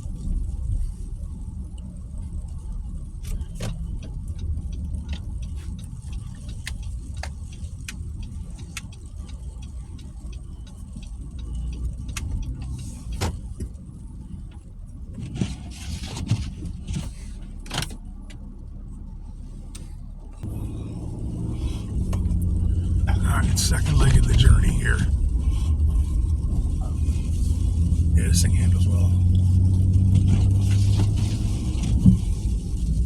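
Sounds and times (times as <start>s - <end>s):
road and engine rumble: 0.0s - 33.0s.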